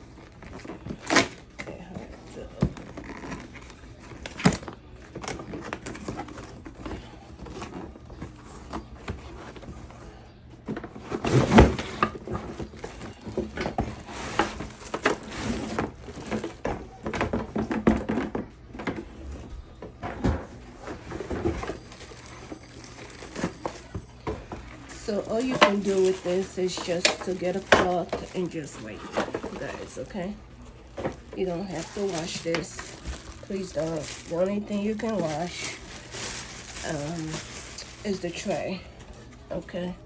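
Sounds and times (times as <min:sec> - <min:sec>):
cardboard and plastic rustling: 0:00.0 - 0:40.0
knocks and thuds of handling: 0:00.2 - 0:39.1.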